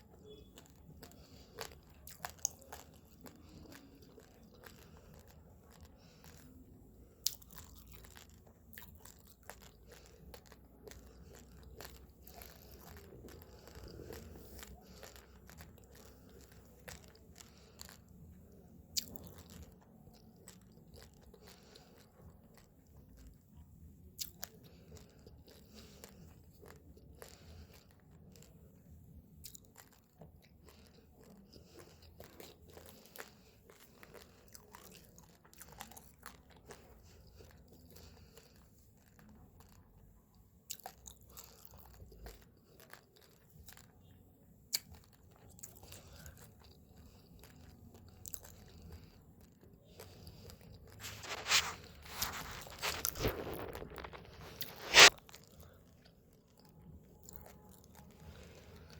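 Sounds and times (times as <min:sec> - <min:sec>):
chewing crunchy rice grains: 0:00.0 - 0:58.9.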